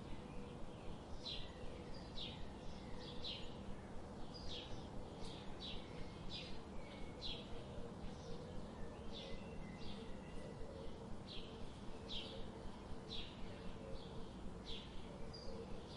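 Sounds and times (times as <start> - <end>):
faint steady hum: 0.0 - 15.9
songbirds chirping: 0.0 - 15.9.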